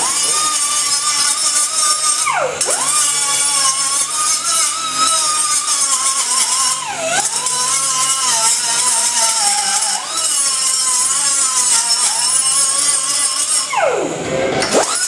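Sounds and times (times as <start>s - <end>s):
angle grinder cutting steel pipe: 0.0s - 15.0s.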